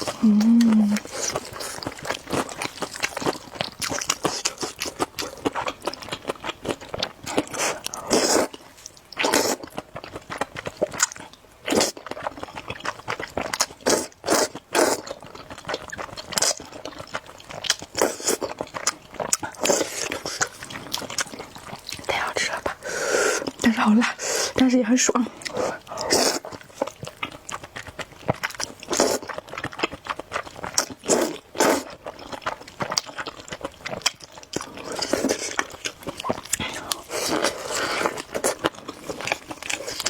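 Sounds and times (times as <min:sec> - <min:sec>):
close chewing and biting: 0:00.0 - 0:24.6, 0:25.3 - 0:40.0.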